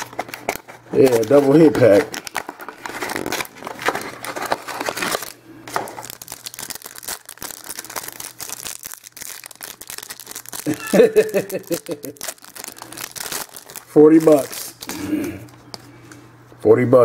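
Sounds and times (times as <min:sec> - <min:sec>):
foil wrapper crinkling: 0:00.0 - 0:15.2.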